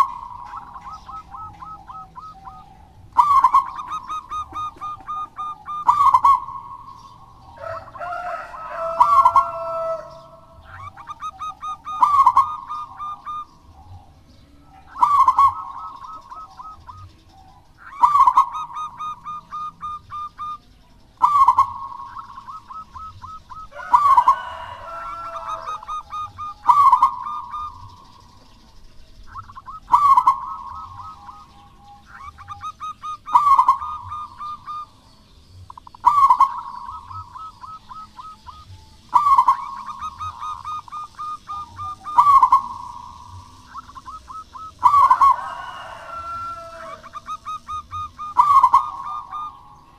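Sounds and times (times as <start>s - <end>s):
dove cooing song: 0.0s - 49.9s
lower bird call: 0.0s - 49.9s.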